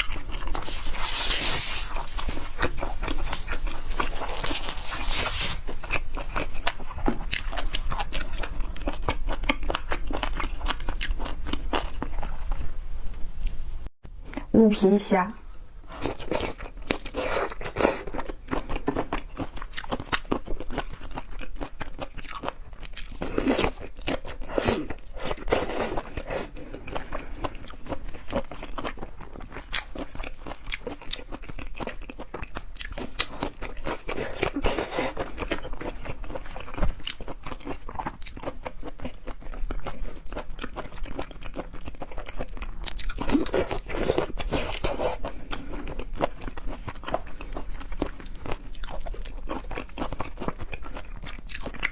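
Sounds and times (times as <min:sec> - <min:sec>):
wet chewing and crunching: 0:00.0 - 0:12.8, 0:15.8 - 0:51.9.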